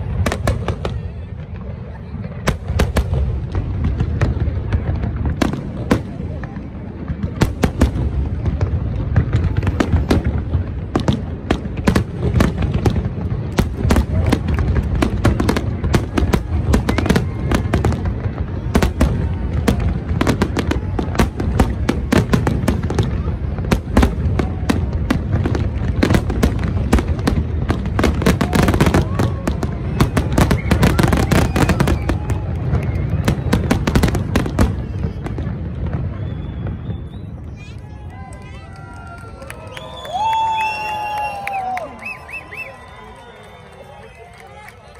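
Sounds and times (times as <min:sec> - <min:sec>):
fireworks cracks and bangs: 0:00.0 - 0:44.9.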